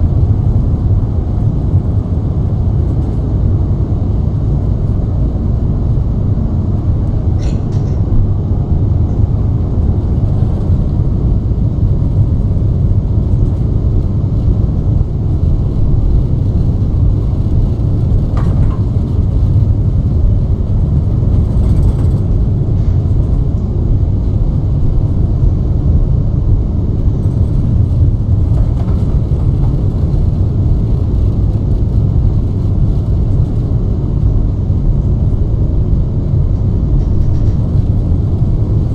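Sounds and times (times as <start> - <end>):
jet airliner rumble: 0.0 - 38.9.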